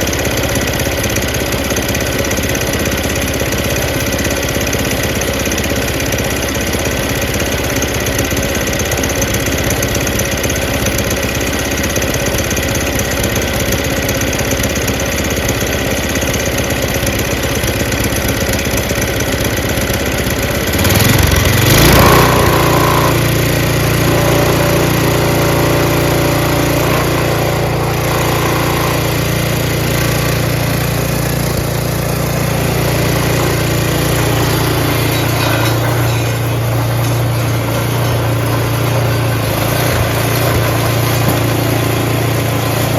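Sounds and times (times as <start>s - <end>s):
snowblower engine running: 0.0s - 42.9s.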